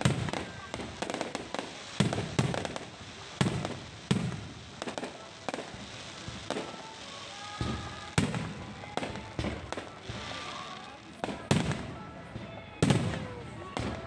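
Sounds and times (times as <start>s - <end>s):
fireworks bangs: 0.0s - 14.0s
fireworks crackling: 0.0s - 14.0s.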